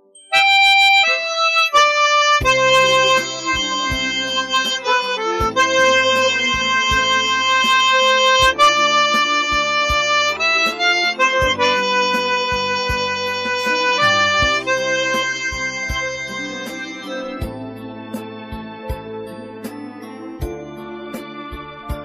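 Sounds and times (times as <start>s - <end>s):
backing track: 0.0s - 22.0s
harmonica slow melody: 0.0s - 22.0s.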